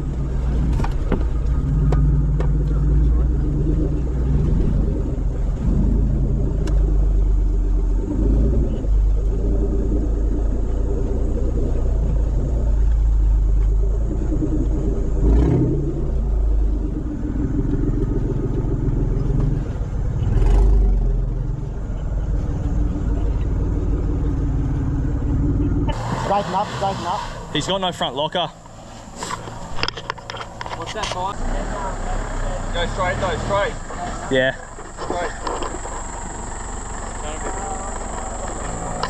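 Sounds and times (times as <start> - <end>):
vehicle engine at low revs: 0.0 - 39.0.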